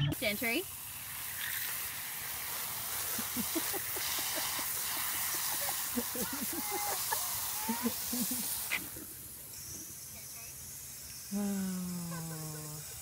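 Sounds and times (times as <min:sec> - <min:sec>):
water hissing from lawn sprinkler: 0:00.0 - 0:13.0.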